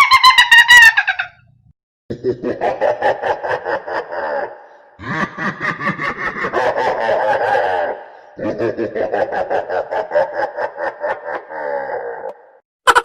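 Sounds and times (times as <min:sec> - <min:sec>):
person laughing: 0:02.1 - 0:13.0.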